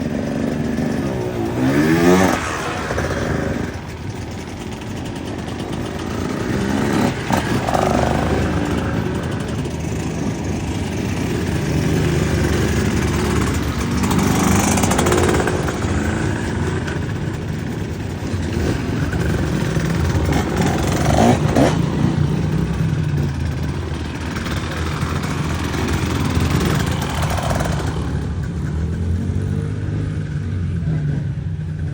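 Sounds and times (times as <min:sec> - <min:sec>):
dirt bike engine revving: 0:00.0 - 0:31.6.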